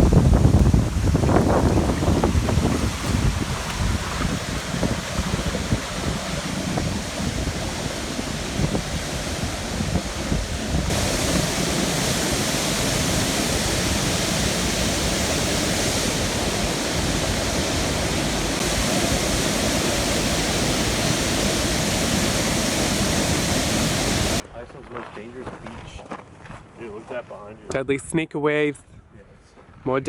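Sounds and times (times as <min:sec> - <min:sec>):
water rushing: 0:00.0 - 0:24.4
wind on microphone: 0:00.0 - 0:24.4.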